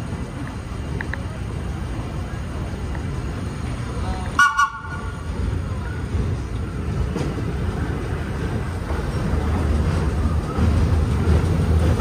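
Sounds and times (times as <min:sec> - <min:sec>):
subway train rumbling on rails: 0:00.0 - 0:12.0.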